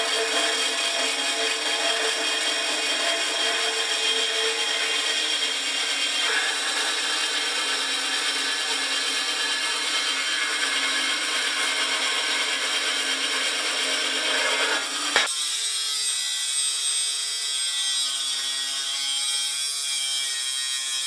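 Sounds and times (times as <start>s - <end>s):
band saw cutting steel: 0.0s - 21.0s.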